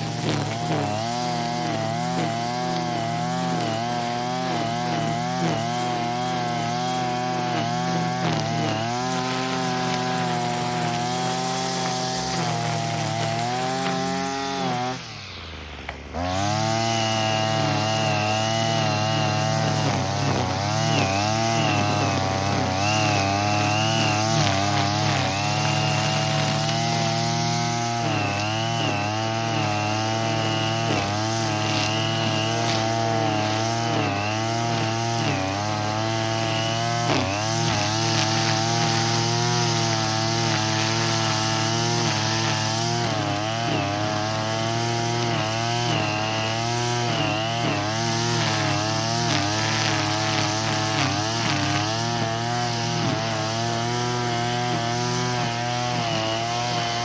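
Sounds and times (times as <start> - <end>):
brush cutter running: 0.0 - 57.0.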